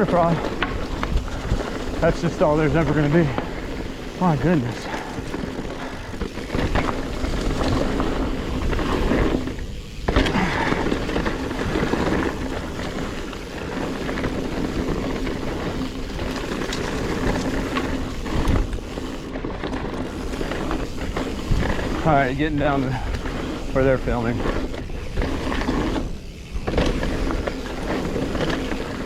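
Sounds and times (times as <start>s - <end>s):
bike knocking and rattling: 0.0s - 29.0s
tyre noise: 0.0s - 29.0s.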